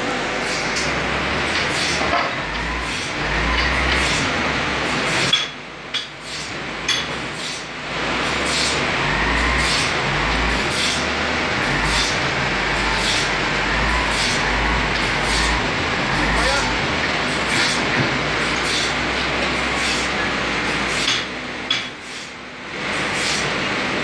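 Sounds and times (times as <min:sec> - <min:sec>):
sawmill machinery din: 0:00.0 - 0:24.0.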